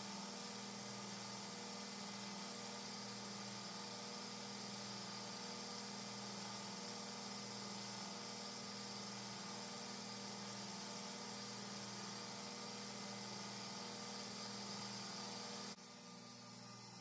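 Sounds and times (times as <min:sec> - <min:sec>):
blade grinding hiss: 0:00.0 - 0:15.8.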